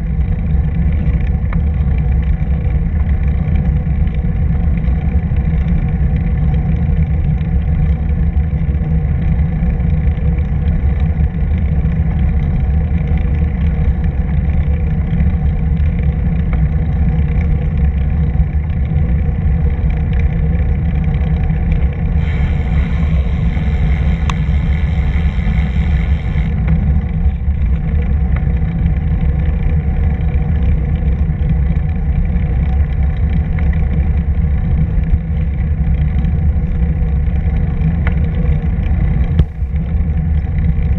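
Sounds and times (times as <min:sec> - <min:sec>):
wind rumble on microphone: 0:00.0 - 0:40.9
wheels rolling on pavement: 0:00.1 - 0:40.9.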